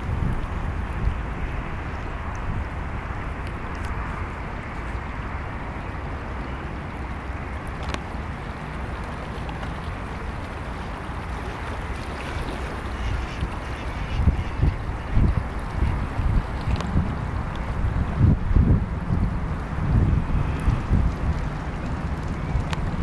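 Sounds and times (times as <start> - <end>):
river water rushing: 0.0 - 23.0
wind rumbling on the microphone: 0.0 - 23.0.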